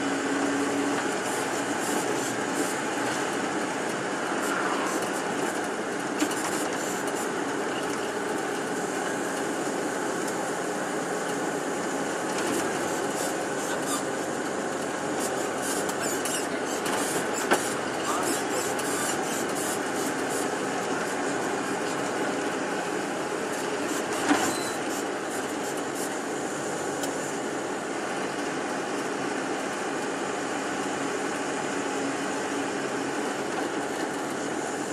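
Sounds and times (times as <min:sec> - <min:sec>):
bus engine and road noise: 0:00.0 - 0:34.9.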